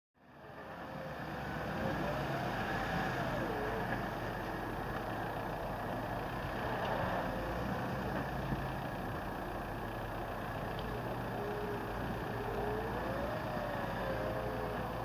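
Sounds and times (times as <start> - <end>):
vehicle engines idling: 0.2 - 15.0.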